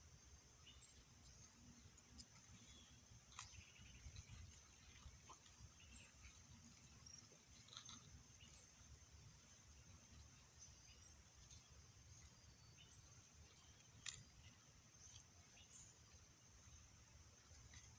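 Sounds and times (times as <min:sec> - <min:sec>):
high insect trill: 0:00.0 - 0:17.9.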